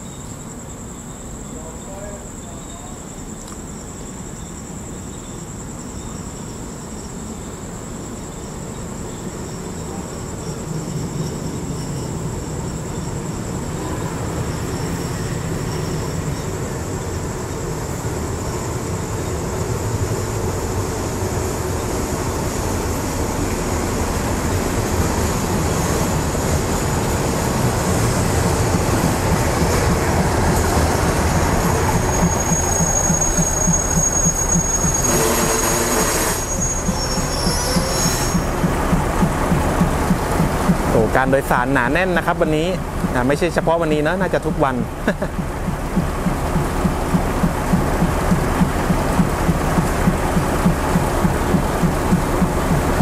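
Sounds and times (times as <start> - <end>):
train brakes squealing: 0.0 - 44.9
crickets chirping: 0.0 - 53.0
diesel train engine rumble: 1.5 - 53.0.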